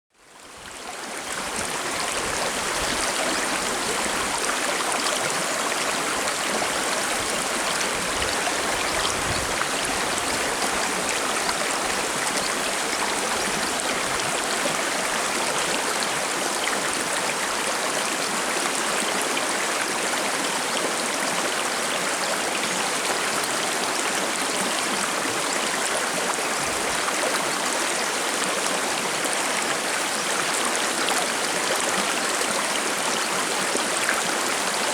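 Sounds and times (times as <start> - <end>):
stream flowing over rocks: 0.2 - 34.9.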